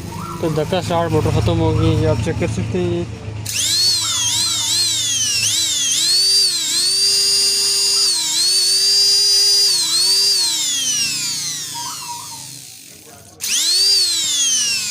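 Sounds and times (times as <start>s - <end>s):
motor armature spinning with high whine: 0.0s - 14.9s.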